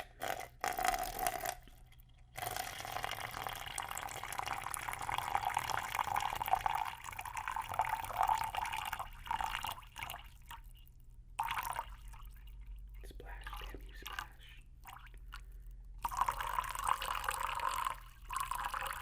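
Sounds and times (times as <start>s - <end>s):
water pouring into a cup: 0.0s - 19.0s.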